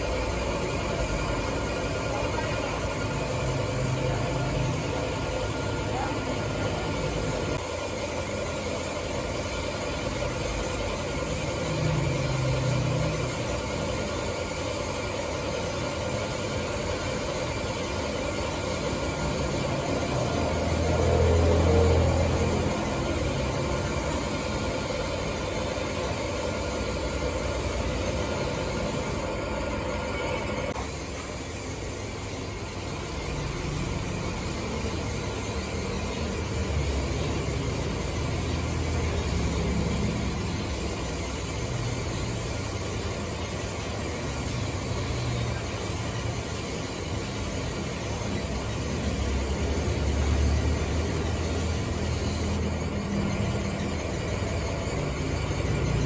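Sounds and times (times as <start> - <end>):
spray gun hissing: 0.0 - 30.0, 30.6 - 52.8
machine drone: 0.0 - 56.0.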